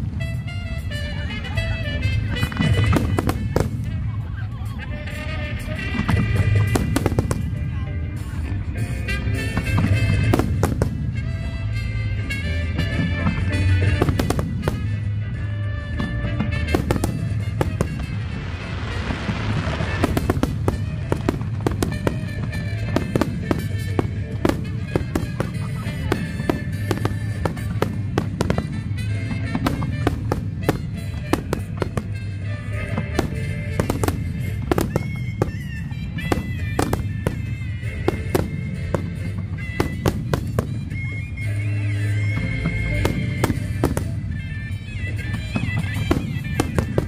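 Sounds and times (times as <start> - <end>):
fireworks bangs and crackles: 0.0 - 47.0
music playing: 0.0 - 47.0.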